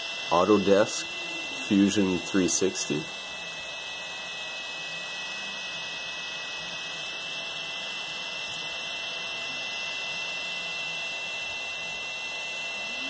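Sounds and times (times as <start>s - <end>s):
high steady whine: 0.0s - 13.0s
printer fans whirring: 0.0s - 13.0s.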